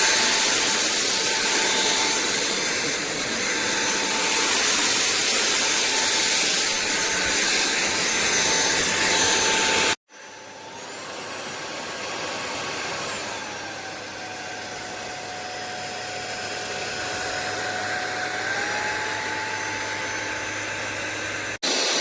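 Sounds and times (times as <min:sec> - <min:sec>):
stick vacuum whirring: 0:00.0 - 0:22.0.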